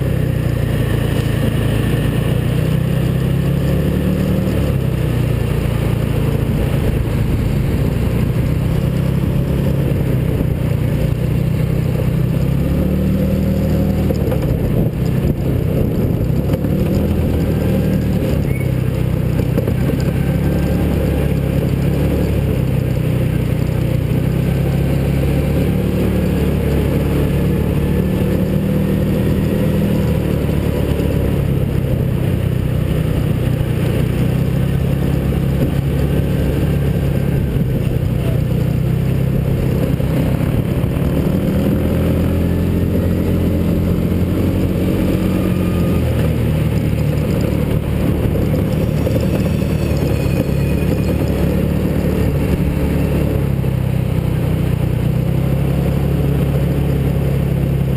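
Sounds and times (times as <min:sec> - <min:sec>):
small engine running: 0:00.0 - 0:57.9.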